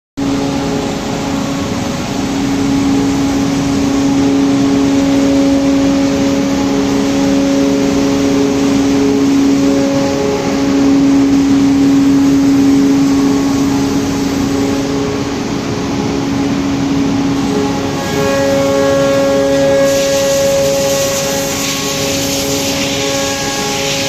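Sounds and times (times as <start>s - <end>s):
machine humming with hiss: 0.2s - 24.0s.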